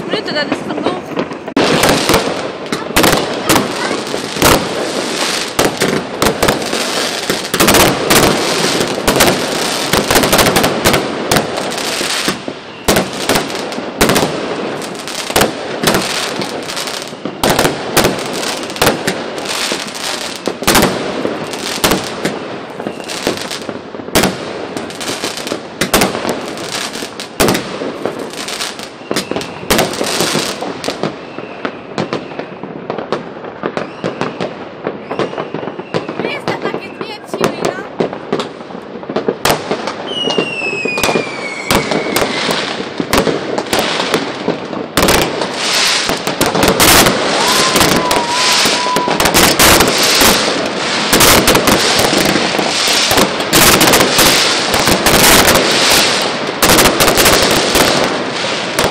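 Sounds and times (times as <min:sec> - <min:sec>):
firecrackers crackling: 0:00.0 - 0:58.9
fireworks bangs and pops: 0:00.0 - 0:58.9.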